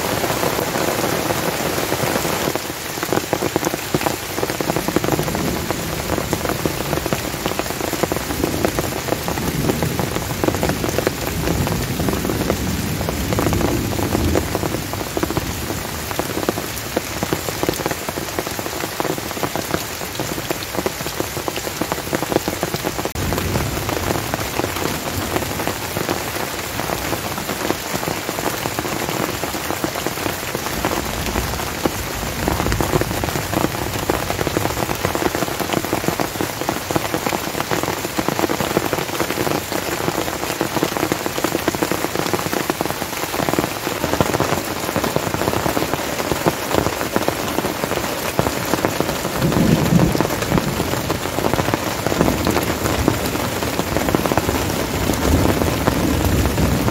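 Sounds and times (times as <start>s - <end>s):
heavy rain on leaves and tents: 0.0s - 56.9s.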